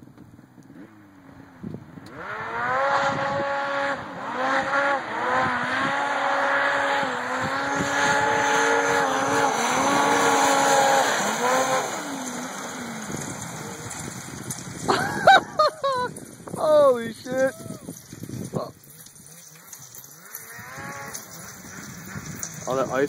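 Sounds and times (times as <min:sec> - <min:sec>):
snowmobile engine at high revs: 0:00.6 - 0:23.0.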